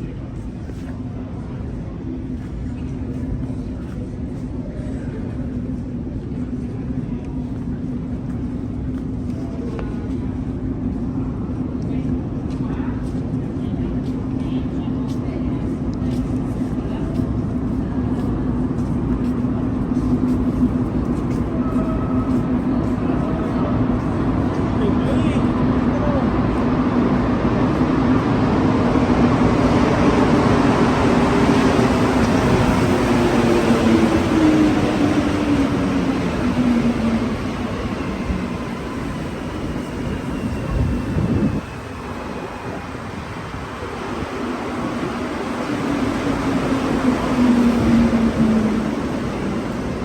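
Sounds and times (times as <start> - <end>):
metro train rumbling: 0.0 - 50.0.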